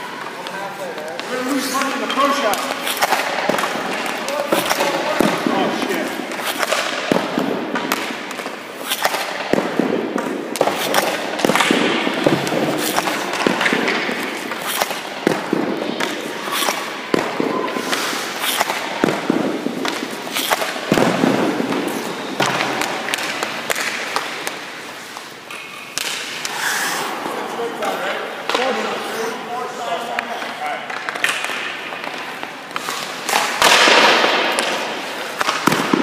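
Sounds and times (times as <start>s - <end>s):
hockey sticks hitting pucks: 0.0s - 36.0s
pucks striking pads net and boards: 0.0s - 36.0s
skates scraping on ice: 0.1s - 25.3s, 26.0s - 36.0s.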